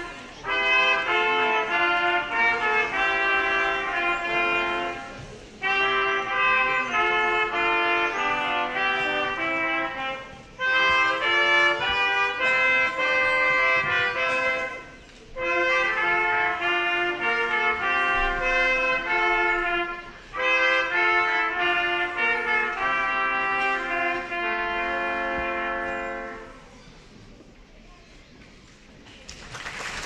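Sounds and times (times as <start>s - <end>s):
trumpets playing in harmony: 0.0s - 26.7s.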